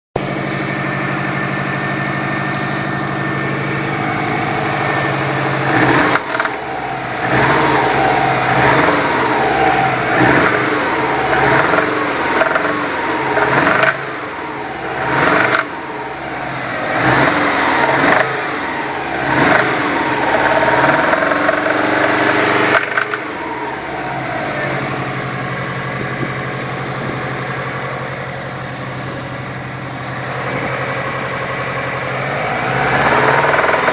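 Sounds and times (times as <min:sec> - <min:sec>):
car engine idling and revving: 0:00.2 - 0:33.9.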